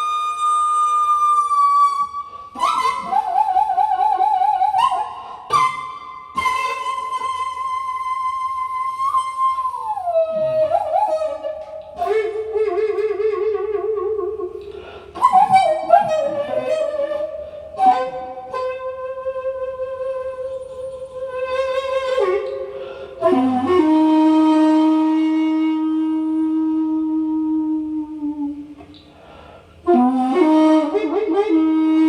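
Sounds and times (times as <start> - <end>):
bamboo flute solo: 0.0 - 29.2, 29.8 - 32.0.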